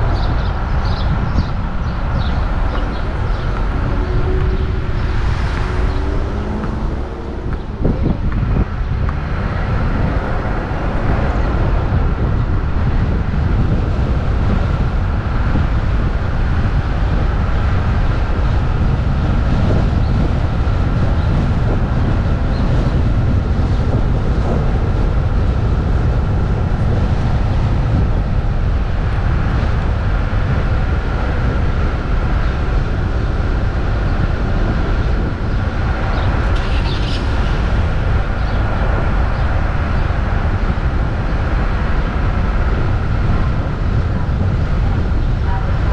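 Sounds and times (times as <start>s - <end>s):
engine and road rumble: 0.0s - 45.9s.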